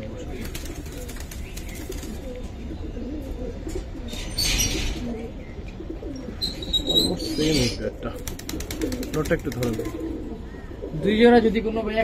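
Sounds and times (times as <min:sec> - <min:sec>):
pigeons cooing: 0:00.0 - 0:11.8.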